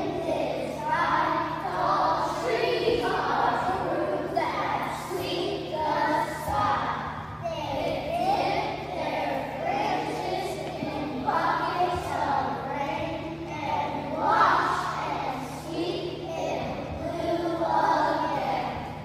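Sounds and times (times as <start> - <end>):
children singing in unison: 0.0 - 19.0.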